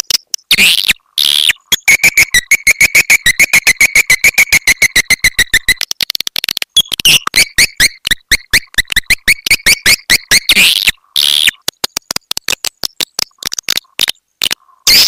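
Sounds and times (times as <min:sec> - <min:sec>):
sharp chirping pulses of bird call: 0:00.0 - 0:05.9, 0:06.8 - 0:11.6, 0:13.4 - 0:15.0.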